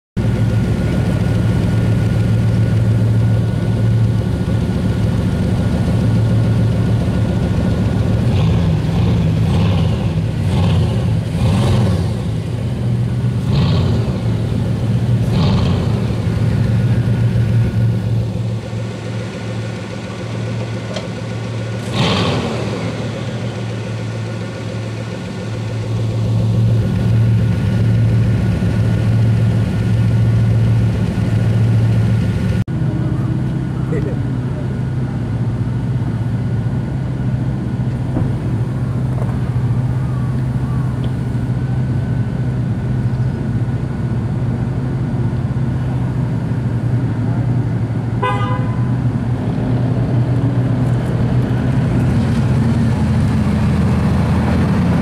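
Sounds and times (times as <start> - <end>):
car engine idling and revving: 0.2 - 55.0.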